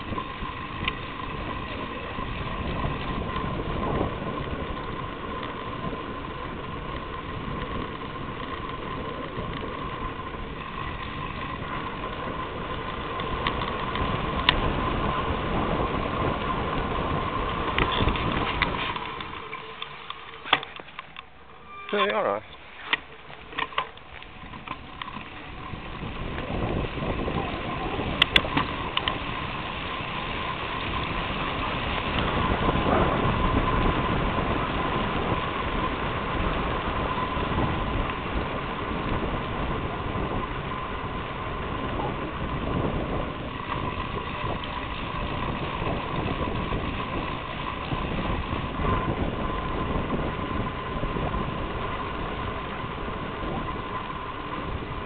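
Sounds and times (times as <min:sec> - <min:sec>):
faint steady whine: 0:00.0 - 0:55.0
wheels rumbling on tarmac: 0:00.0 - 0:55.0
wind: 0:00.0 - 0:55.0.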